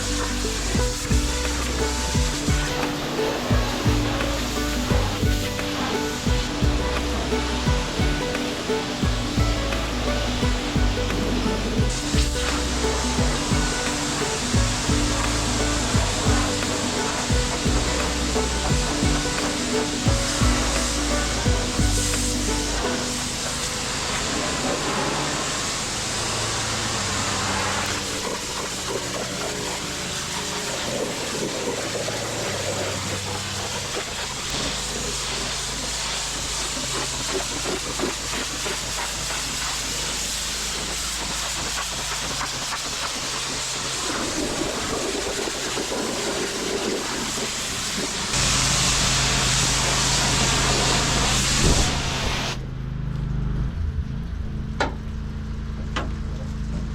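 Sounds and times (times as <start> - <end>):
pressure washer spraying water: 0.0 - 52.6
pump engine running: 0.0 - 52.6.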